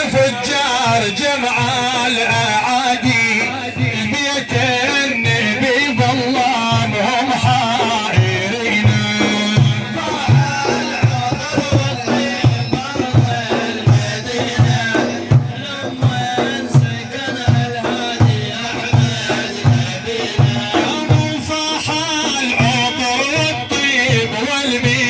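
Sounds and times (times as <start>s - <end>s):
deep drum beat: 0.0s - 25.0s.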